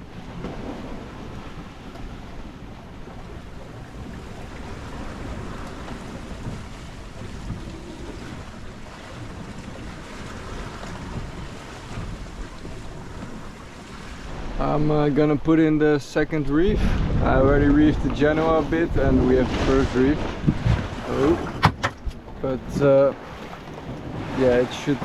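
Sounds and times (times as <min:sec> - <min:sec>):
waves sloshing and breaking: 0:00.0 - 0:25.0
wind buffeting microphone: 0:00.0 - 0:25.0.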